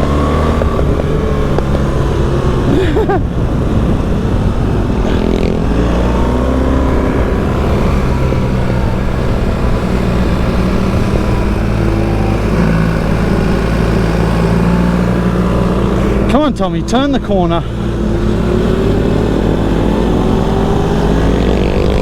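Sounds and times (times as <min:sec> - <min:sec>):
motorcycle engine revving: 0:00.0 - 0:22.0
wind and road noise: 0:00.0 - 0:22.0.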